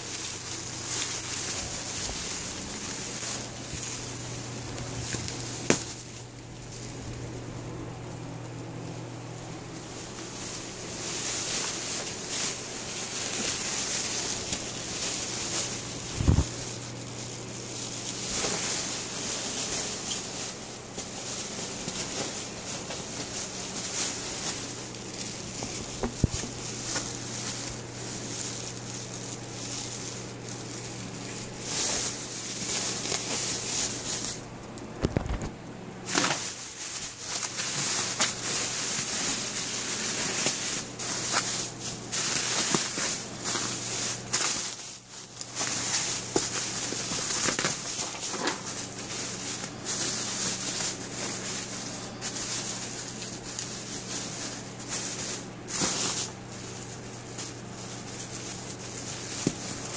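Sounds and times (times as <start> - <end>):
plastic bags crinkling: 0.0 - 59.9
steady low hum: 0.0 - 59.9.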